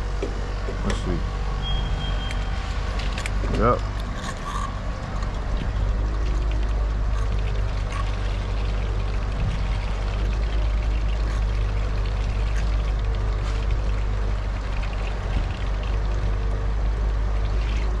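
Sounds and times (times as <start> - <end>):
fuel pouring into tank: 0.0 - 18.0
steady low hum: 0.0 - 18.0.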